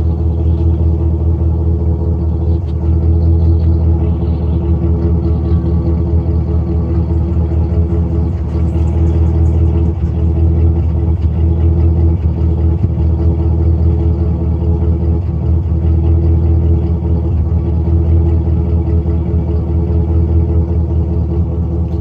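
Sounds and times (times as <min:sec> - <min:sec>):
engine exhaust idling: 0:00.0 - 0:22.0.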